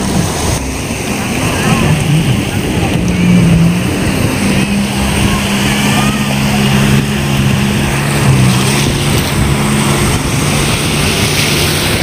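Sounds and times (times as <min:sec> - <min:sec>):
jet ski engine running: 0:00.0 - 0:12.0
small waves breaking: 0:00.0 - 0:12.0.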